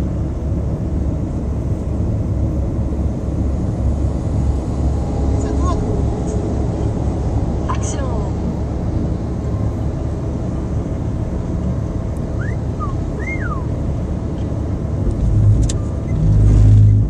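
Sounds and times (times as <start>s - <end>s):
car road and engine rumble: 0.0s - 17.0s
loud low rumble: 0.0s - 17.0s.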